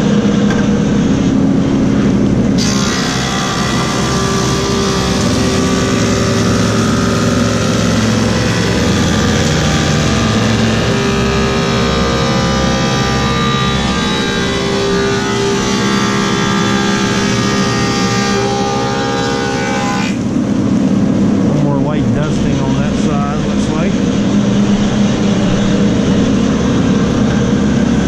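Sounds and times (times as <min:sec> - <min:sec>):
wood planer running: 0:00.0 - 0:28.0.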